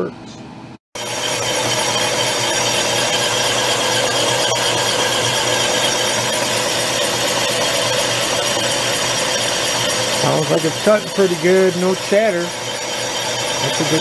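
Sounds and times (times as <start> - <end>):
machine hum: 0.3 - 14.0
lathe cutting metal: 1.0 - 14.0.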